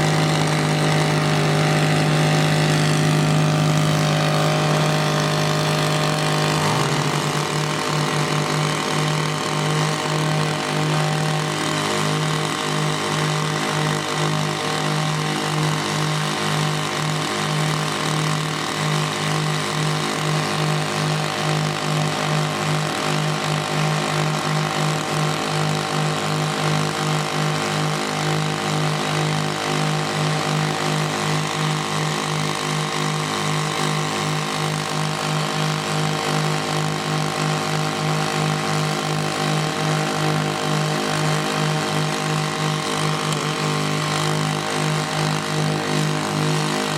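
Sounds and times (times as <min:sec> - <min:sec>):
small engine throbbing: 0:00.0 - 0:46.9.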